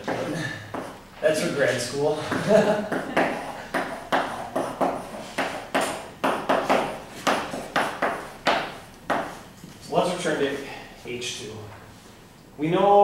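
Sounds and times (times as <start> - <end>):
eraser wiping chalkboard: 0.0 - 10.6.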